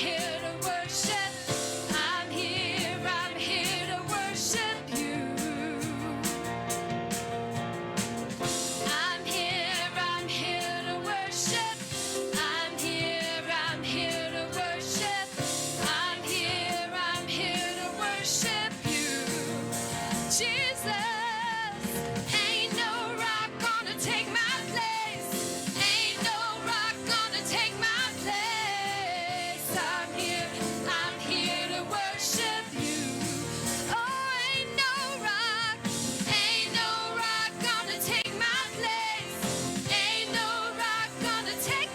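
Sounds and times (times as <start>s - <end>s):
singers with vibrato: 0.0s - 6.5s, 8.8s - 41.9s
guitar-led band accompaniment: 0.0s - 41.9s.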